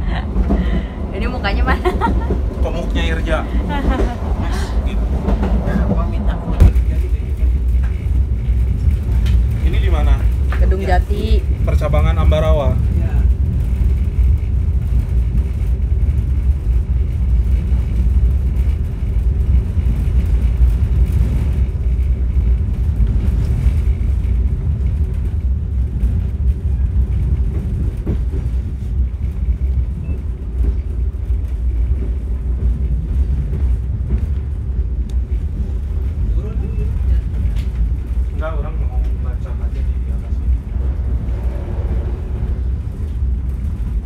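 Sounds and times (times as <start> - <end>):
wheels rumbling on rail: 0.0 - 44.0.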